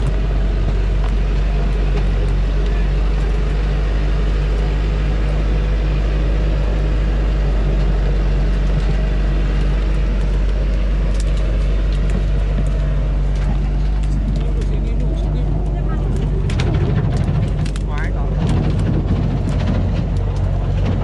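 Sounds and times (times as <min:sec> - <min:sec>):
diesel truck engine running hard: 0:00.0 - 0:21.0
light cracks: 0:00.0 - 0:21.0.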